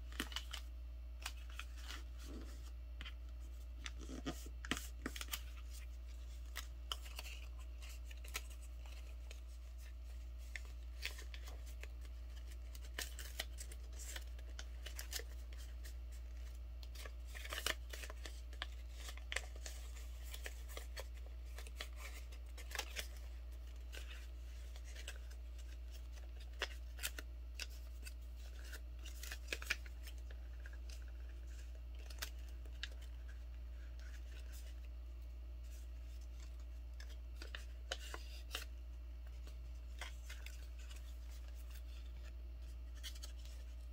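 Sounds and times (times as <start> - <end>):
paper crinkling while folded: 0.0 - 43.9.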